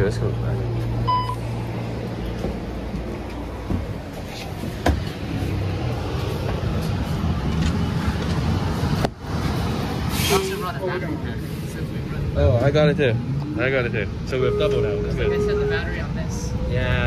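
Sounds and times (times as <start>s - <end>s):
bus hum and road noise: 0.0s - 17.0s.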